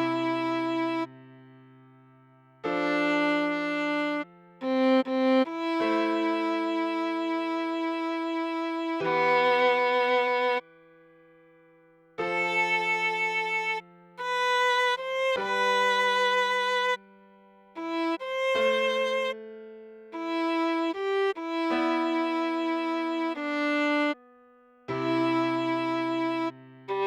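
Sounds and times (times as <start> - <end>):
viola playing slow melody: 0.0 - 1.8, 2.6 - 11.0, 12.2 - 27.0.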